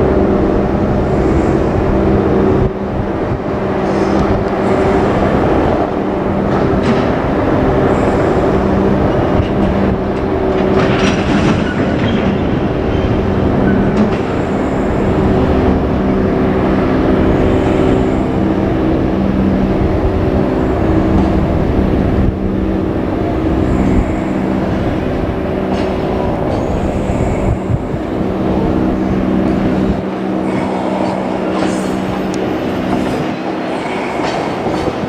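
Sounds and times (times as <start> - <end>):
locomotive hum: 0.0 - 35.0
train wheels rumbling on rails: 0.0 - 35.0.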